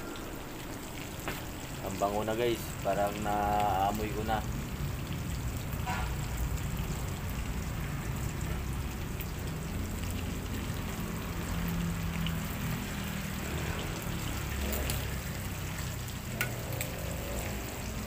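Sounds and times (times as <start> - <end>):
meat sizzling in a wok: 0.0 - 18.0.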